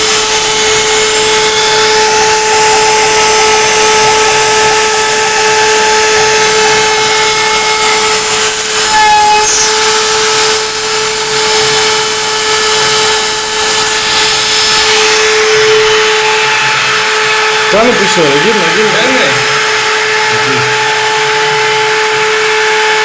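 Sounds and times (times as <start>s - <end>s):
router spindle whining while carving: 0.0s - 23.0s.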